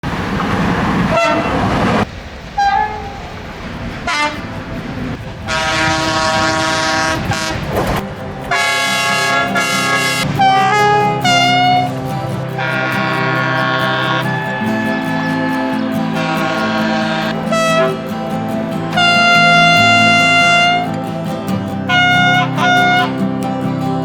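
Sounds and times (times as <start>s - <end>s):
passing train: 0.0s - 24.0s
locomotive horn blasts: 1.1s - 2.0s, 2.6s - 3.3s, 4.0s - 18.3s, 18.9s - 21.0s, 21.9s - 23.3s.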